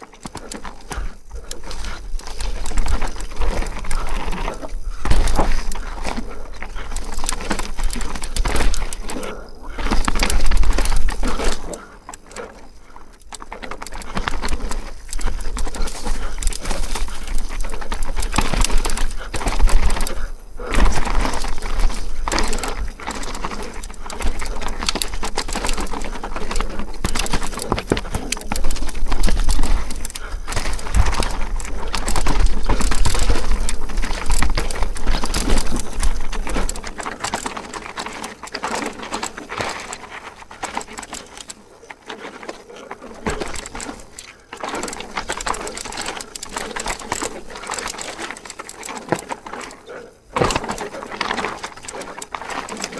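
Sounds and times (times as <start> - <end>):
bike tyres and frame clattering: 0.0 - 52.9.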